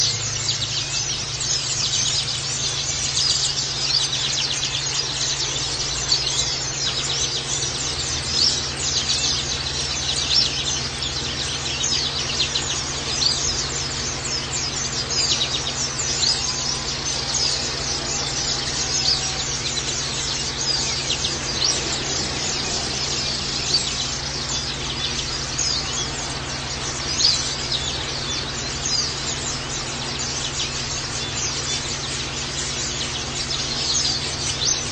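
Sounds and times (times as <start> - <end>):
flock of birds chirping: 0.0 - 34.9
steady low hum: 0.0 - 34.9.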